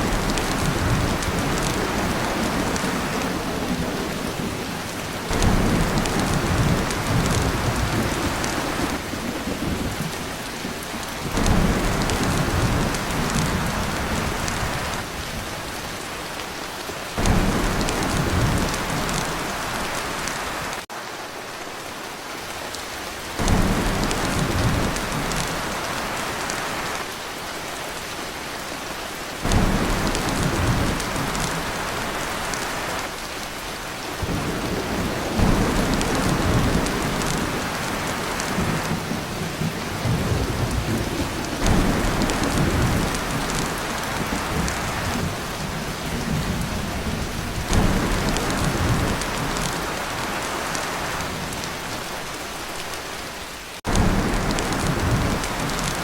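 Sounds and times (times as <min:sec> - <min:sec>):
thunder rolling: 0:00.0 - 0:15.4, 0:17.2 - 0:20.8, 0:23.4 - 0:26.6, 0:29.4 - 0:32.9, 0:34.2 - 0:51.6, 0:53.9 - 0:56.0
heavy rain on a tin roof: 0:00.0 - 0:56.0.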